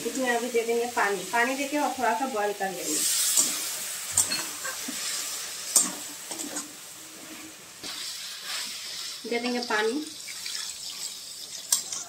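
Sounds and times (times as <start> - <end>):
curry sizzling in pan: 0.0 - 12.0.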